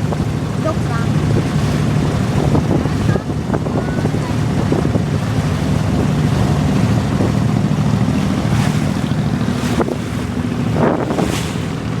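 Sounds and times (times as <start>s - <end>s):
diesel engine humming: 0.0s - 12.0s
short knocks or splashes: 0.0s - 12.0s
wind on microphone: 0.0s - 12.0s.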